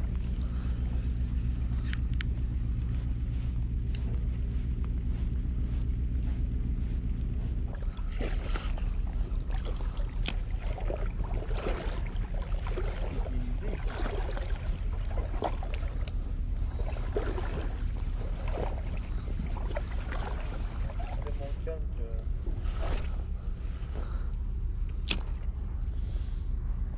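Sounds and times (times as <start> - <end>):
wind rumble on microphone: 0.0 - 26.9.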